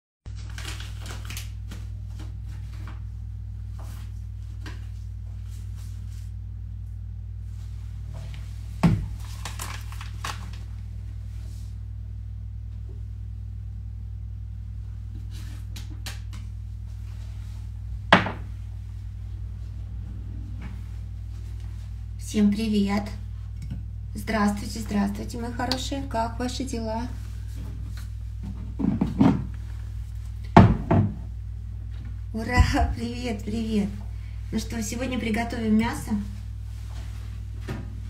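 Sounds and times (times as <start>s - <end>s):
steady low hum: 0.3s - 38.0s.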